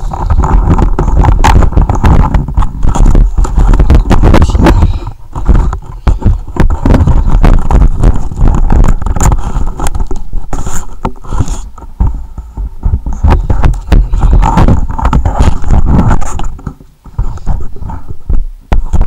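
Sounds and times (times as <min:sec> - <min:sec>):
short knocks and scrapes: 0:00.0 - 0:19.0
wind rumble on microphone: 0:00.0 - 0:19.0.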